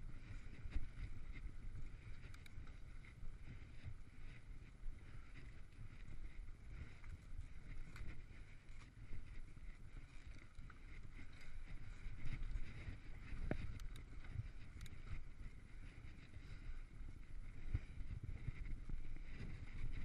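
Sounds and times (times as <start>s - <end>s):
wind buffeting microphone: 0.0s - 20.0s
bike clicks and rattles: 0.1s - 4.4s, 5.0s - 20.0s.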